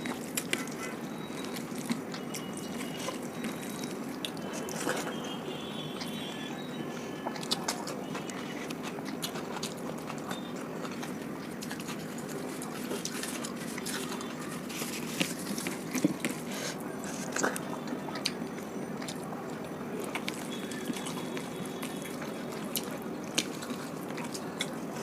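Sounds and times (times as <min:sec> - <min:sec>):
close chewing and mouth sounds: 0:00.0 - 0:25.0.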